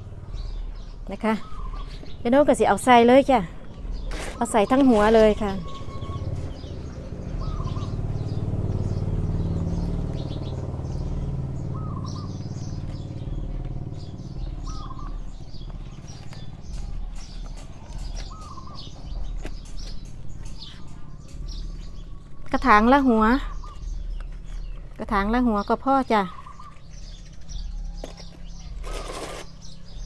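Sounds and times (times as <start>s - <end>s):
birds chirping and calling: 0.0s - 30.0s
low steady rumble: 0.0s - 30.0s.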